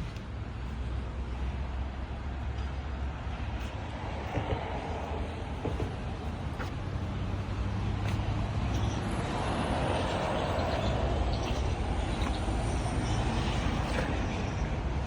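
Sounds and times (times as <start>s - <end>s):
vehicle engine rumbling: 0.0s - 15.0s
wind and road noise: 0.0s - 15.0s.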